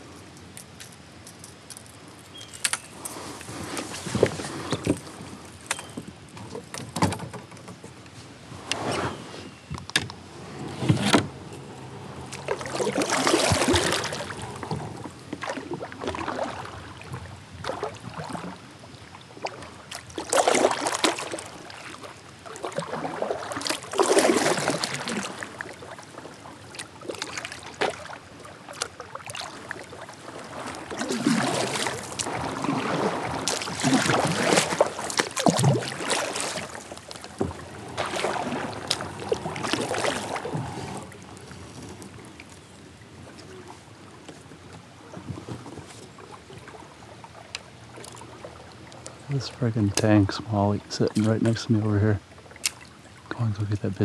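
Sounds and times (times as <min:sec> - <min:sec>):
kayak paddle splashing water: 0:02.6 - 0:07.2, 0:10.2 - 0:54.0.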